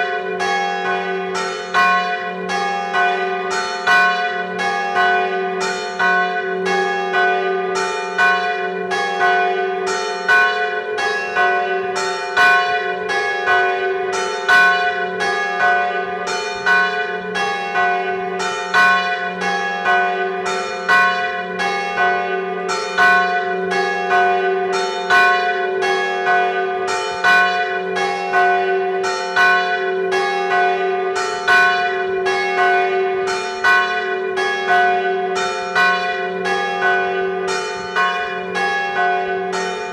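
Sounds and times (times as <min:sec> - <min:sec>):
big church bell tolling: 0:00.0 - 0:39.9
smaller bells struck alternately: 0:00.0 - 0:39.9.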